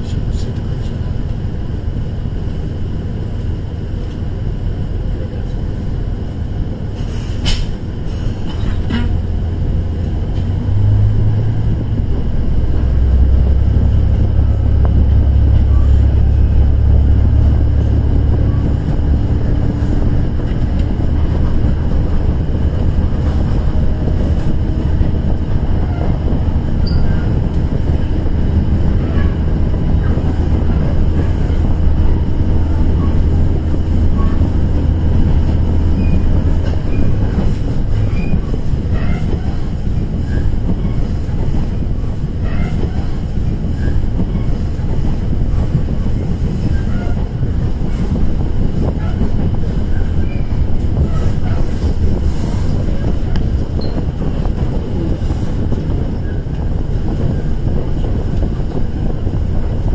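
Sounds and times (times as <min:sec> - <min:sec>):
diesel engine rumble: 0:00.0 - 0:59.9
wheels on rails: 0:10.2 - 0:59.9.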